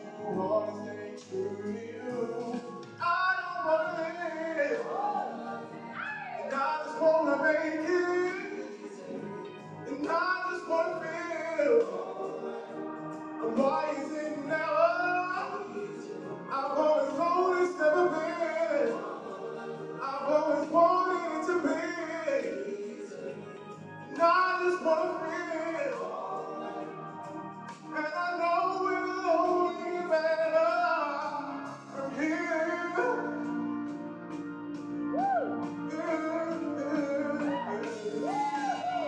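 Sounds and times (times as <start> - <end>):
person singing: 0.0 - 23.4, 24.1 - 27.1, 27.9 - 33.8, 35.0 - 39.0.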